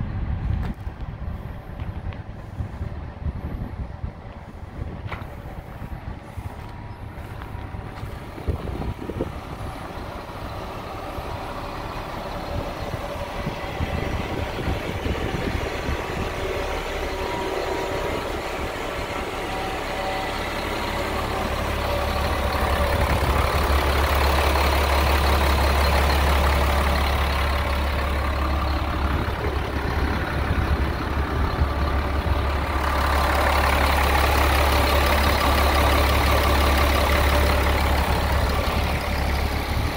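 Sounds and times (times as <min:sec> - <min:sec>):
truck diesel engine rumbling: 0:00.0 - 0:39.9.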